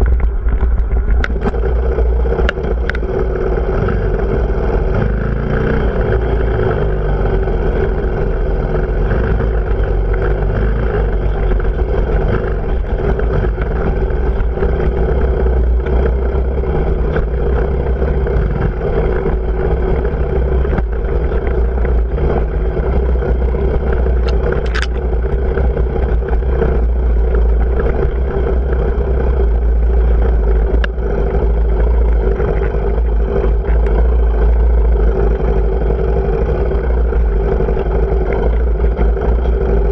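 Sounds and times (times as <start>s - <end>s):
motorcycle engine running: 0.0s - 39.9s
rattle over rough ground: 0.0s - 39.9s.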